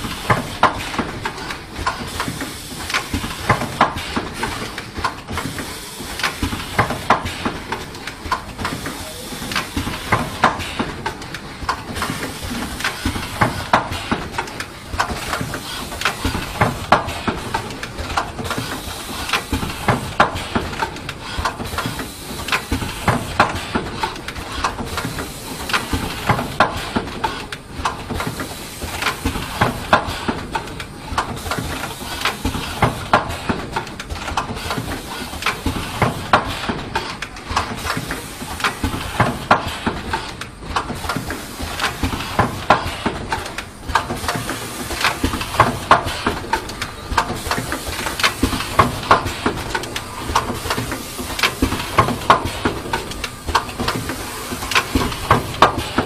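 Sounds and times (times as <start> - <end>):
machine clattering clicks and knocks: 0.0 - 56.0.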